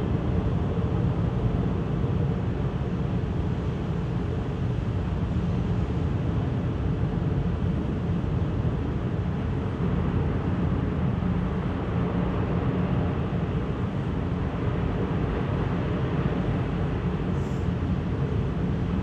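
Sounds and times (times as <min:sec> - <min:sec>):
ship engines low rumble: 0:00.0 - 0:19.0.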